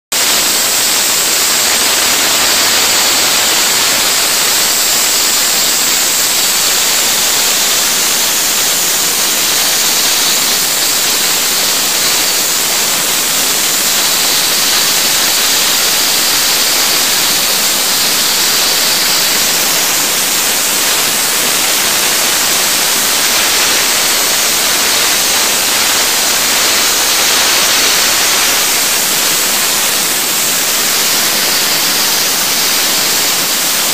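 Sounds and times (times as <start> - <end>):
ice blasting nozzle hissing: 0.2 - 33.9.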